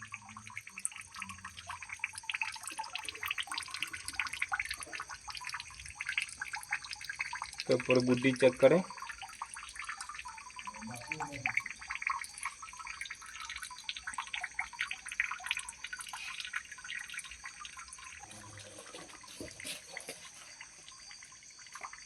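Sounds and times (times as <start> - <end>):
water dripping: 0.0 - 22.0.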